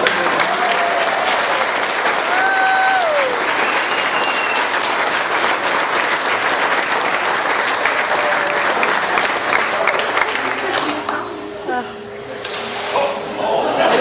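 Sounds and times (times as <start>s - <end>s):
crowd clapping: 0.0s - 11.4s.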